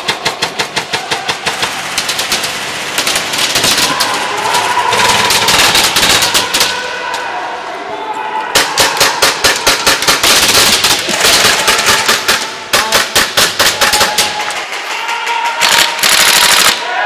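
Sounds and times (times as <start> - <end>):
airsoft guns firing: 0.0 - 6.9, 8.5 - 16.9.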